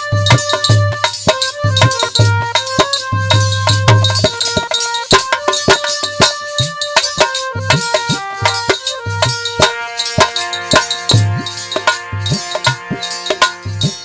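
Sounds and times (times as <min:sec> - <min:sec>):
hand drum strokes: 0:00.0 - 0:14.0
held melody line: 0:00.0 - 0:14.0.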